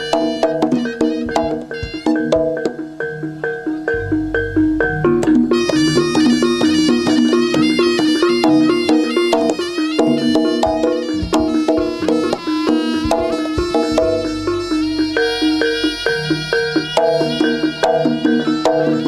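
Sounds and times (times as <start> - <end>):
drum strokes: 0.0 - 19.0
pitched metal percussion: 0.0 - 19.0
reedy shawm melody: 0.0 - 19.0.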